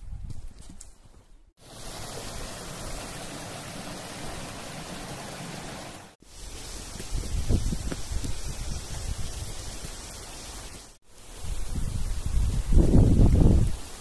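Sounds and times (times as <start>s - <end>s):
stream running over rocks: 1.6s - 14.0s.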